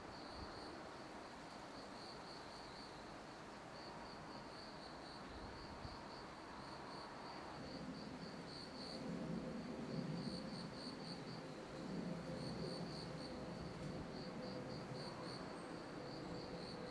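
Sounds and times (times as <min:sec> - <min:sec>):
crickets chirping: 0:00.1 - 0:16.9.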